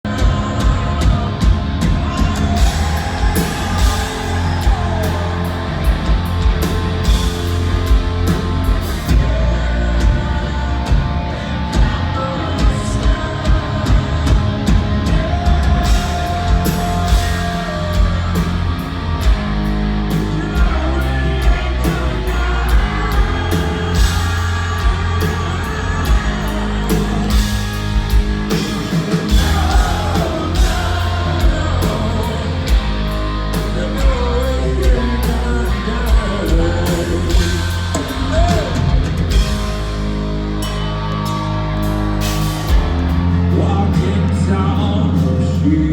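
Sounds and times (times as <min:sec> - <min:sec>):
person singing: 0:00.0 - 0:19.4, 0:20.1 - 0:39.6
bass guitar: 0:00.0 - 0:45.9
drums keeping a beat: 0:00.0 - 0:45.9
electric guitar: 0:00.1 - 0:45.9.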